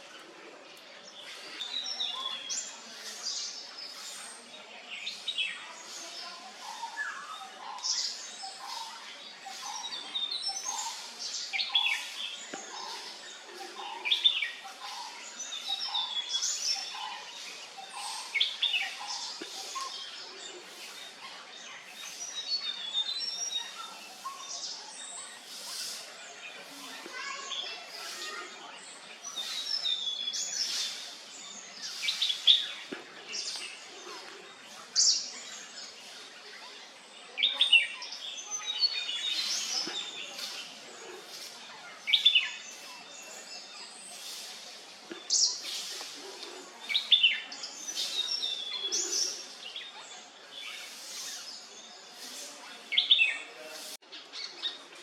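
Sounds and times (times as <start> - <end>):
wild birds chirping and singing: 0.0 - 55.0.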